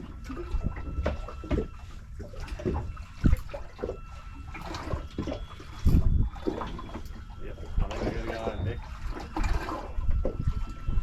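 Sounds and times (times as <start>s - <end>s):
water slapping boat hull: 0.0s - 11.0s.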